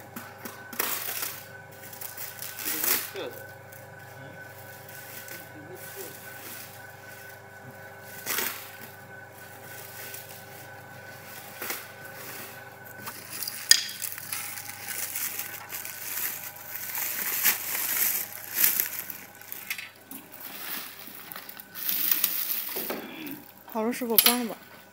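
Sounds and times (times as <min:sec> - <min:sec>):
faint steady hum: 0:00.0 - 0:24.9
bubble wrap crinkling: 0:00.5 - 0:24.2.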